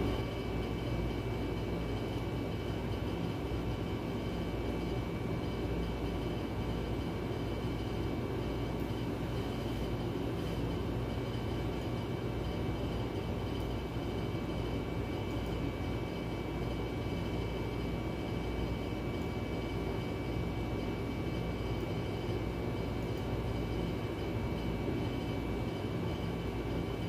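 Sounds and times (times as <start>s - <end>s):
mechanical hum and hiss: 0.0s - 27.0s.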